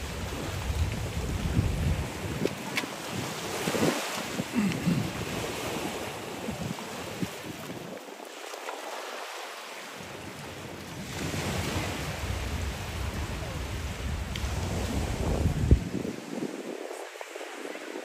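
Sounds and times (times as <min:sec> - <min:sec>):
wind buffeting microphone: 0:00.0 - 0:08.1, 0:10.0 - 0:18.0
surf washing onto beach: 0:00.0 - 0:18.0.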